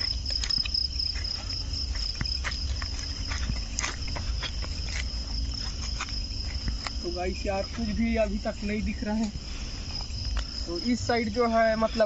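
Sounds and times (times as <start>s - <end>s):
crickets chirping: 0.0s - 12.0s
footsteps on dry stubble: 0.0s - 12.0s.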